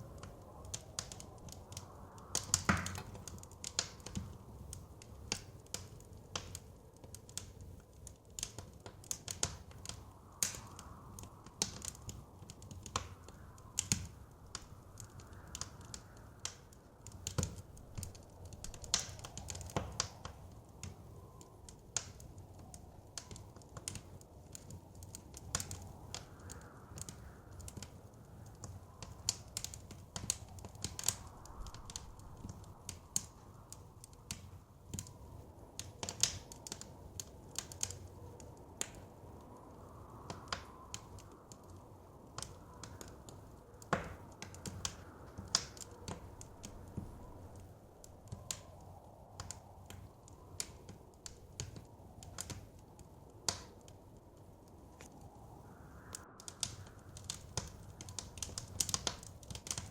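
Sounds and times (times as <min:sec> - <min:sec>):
wood fire crackling: 0:00.0 - 0:59.9
blizzard wind rushing: 0:09.5 - 0:59.9.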